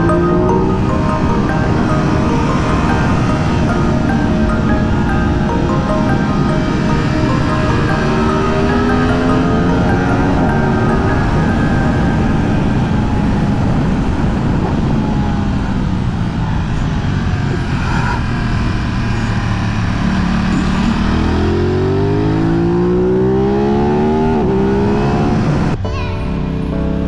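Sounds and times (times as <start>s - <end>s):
motorcycle engine revving: 0.0s - 25.8s
wind noise: 0.0s - 25.8s.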